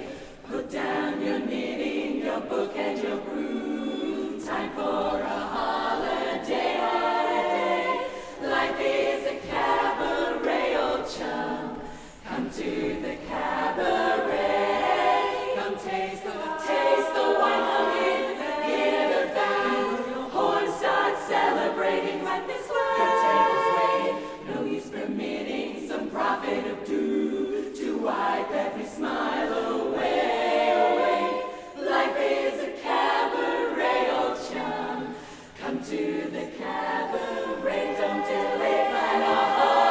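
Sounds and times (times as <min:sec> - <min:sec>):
chorus singing a cappella: 0:00.0 - 0:39.9.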